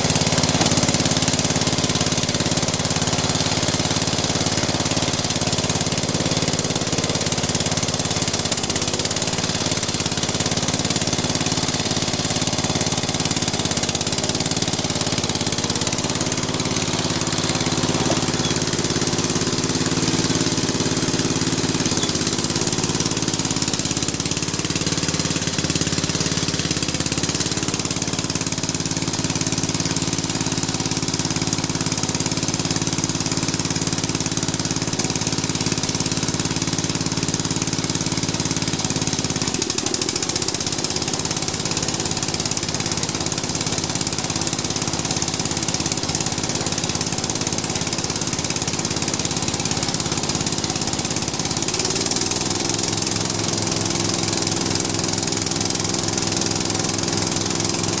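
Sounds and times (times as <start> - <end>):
riding mower engine running: 0.0 - 58.0.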